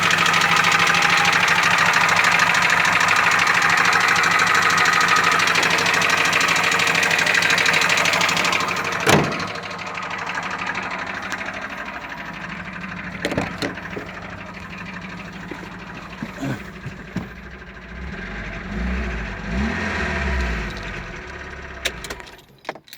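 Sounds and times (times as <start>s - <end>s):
car engine idling with knock: 0.0s - 22.8s.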